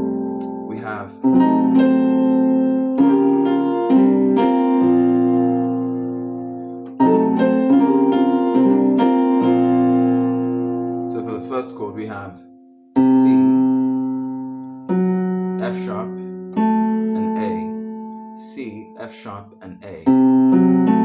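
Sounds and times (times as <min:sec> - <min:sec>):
electric piano chords: 0:00.0 - 0:21.0.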